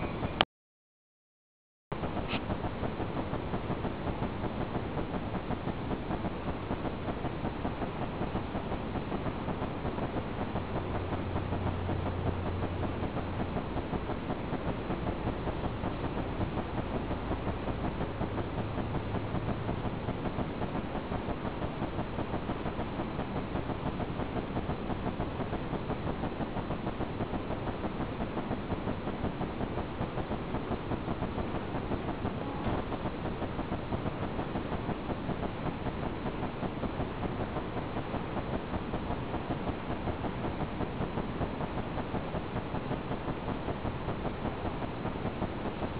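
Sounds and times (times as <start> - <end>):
low machine hum: 0.0 - 0.4, 1.9 - 45.9.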